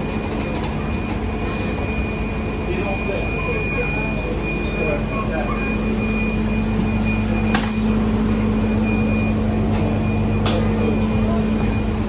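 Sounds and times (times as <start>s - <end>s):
bus engine idling hum: 0.0s - 12.0s.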